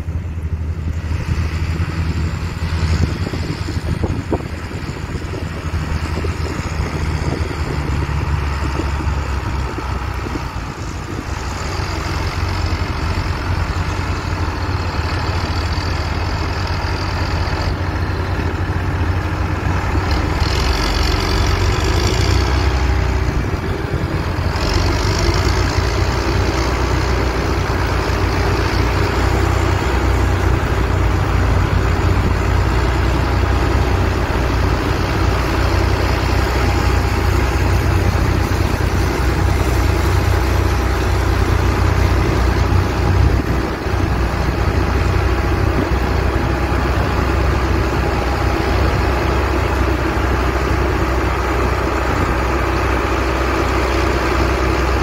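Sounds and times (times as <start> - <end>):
tractor diesel engines running: 0.0 - 55.0.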